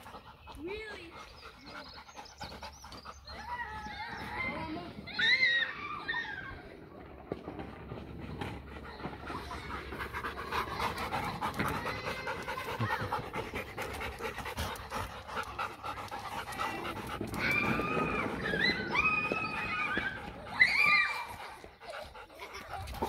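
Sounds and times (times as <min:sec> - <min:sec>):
dogs panting: 0:00.0 - 0:05.1, 0:06.7 - 0:23.0.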